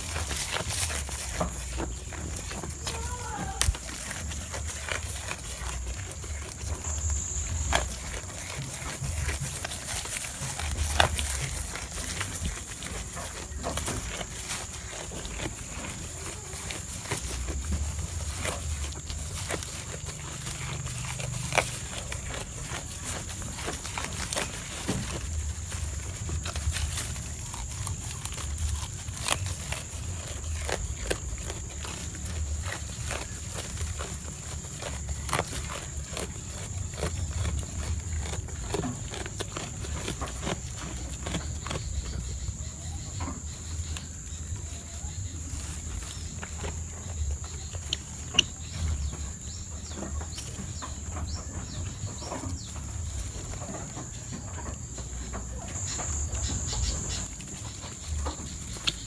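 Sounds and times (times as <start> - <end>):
goats chewing leaves: 0.0 - 59.0.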